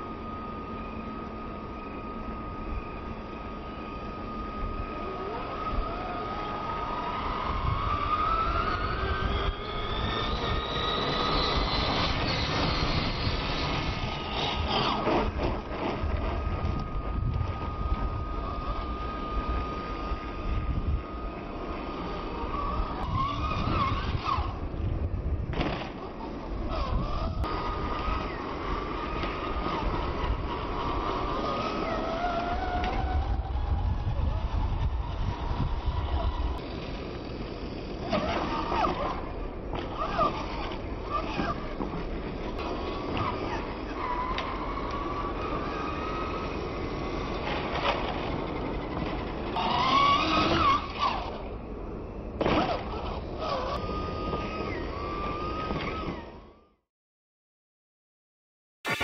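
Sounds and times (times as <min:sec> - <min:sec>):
toy truck electric motor whining: 0:00.0 - 0:24.7, 0:26.2 - 0:56.8
wind rumbling on microphone: 0:02.3 - 0:56.6.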